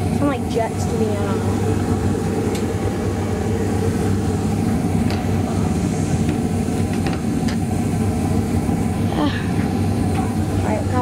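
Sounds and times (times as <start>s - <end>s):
gas furnace burners rushing: 0.0s - 11.0s.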